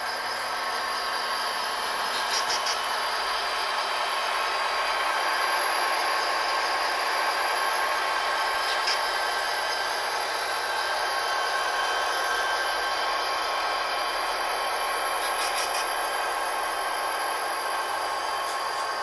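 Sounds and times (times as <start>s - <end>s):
model locomotive idling drone: 0.0s - 19.0s.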